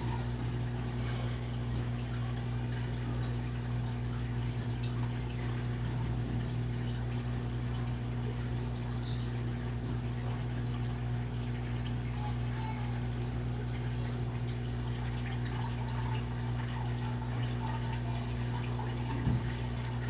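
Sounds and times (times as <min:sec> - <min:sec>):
steady low hum: 0:00.0 - 0:20.0
water ticks and trickles: 0:00.0 - 0:20.0.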